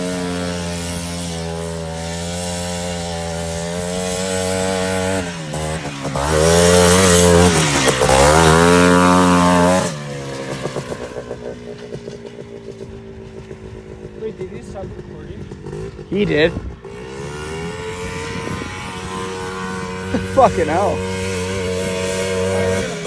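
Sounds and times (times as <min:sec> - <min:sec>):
quad bike engine revving: 0:00.0 - 0:23.0.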